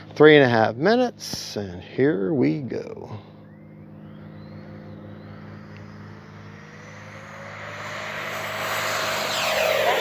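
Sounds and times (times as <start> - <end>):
electric ducted fan whine: 0.0 - 10.0.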